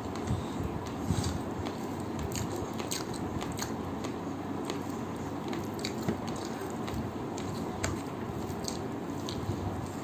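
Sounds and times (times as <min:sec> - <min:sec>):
chewing: 0:01.2 - 0:10.0.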